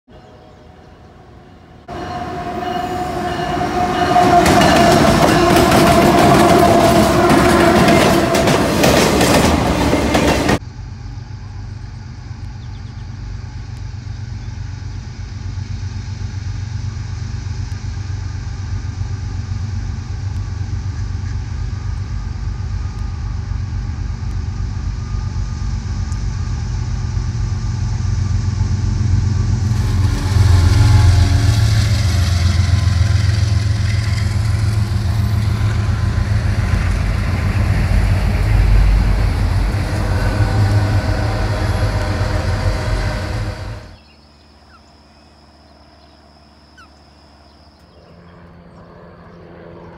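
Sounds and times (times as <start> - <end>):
diesel locomotive engine droning: 0.1 - 49.9
freight cars rolling rumble: 1.8 - 44.0.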